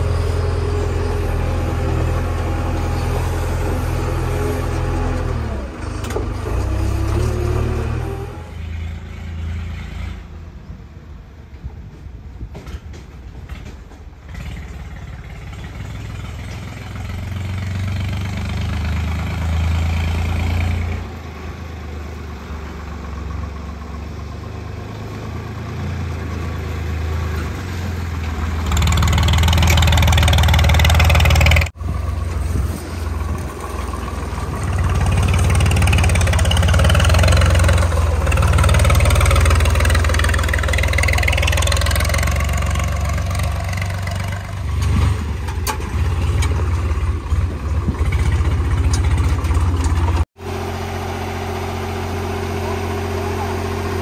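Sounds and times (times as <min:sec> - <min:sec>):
tractor diesel engine running: 0:00.0 - 0:08.5, 0:13.4 - 0:54.0.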